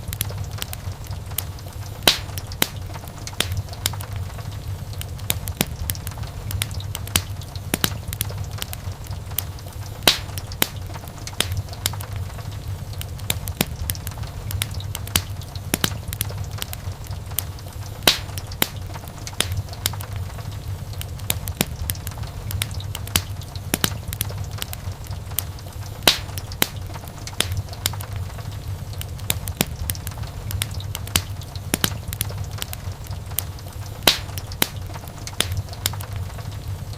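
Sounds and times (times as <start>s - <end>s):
low rumble of burning: 0.0s - 36.9s
wood fire pops and snaps: 0.0s - 36.9s.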